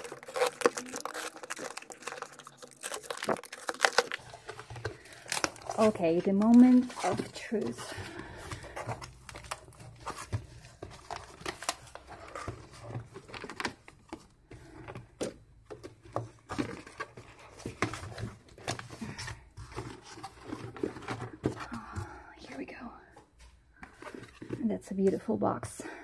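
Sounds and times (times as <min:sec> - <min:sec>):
cardboard rustling and scraping: 0:00.0 - 0:21.8, 0:23.9 - 0:25.6.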